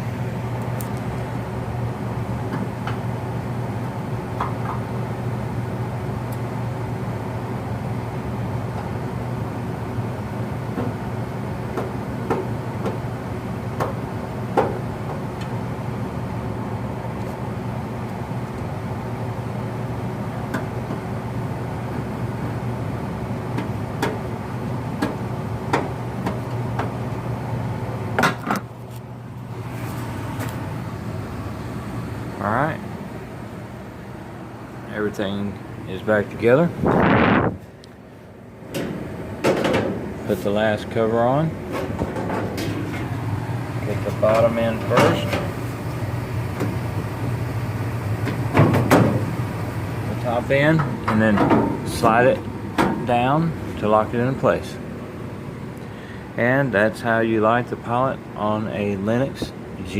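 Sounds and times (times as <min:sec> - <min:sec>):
gas furnace humming: 0:00.0 - 0:59.9.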